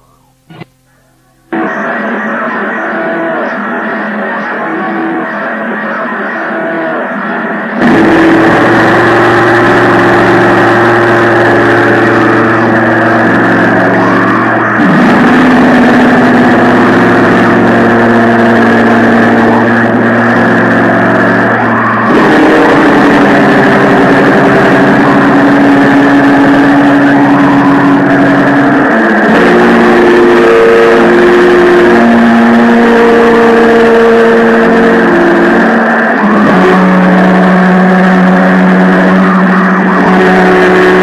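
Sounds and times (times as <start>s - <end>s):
distorted noise wall: 0.0s - 41.0s
sustained droning tones: 0.0s - 41.0s.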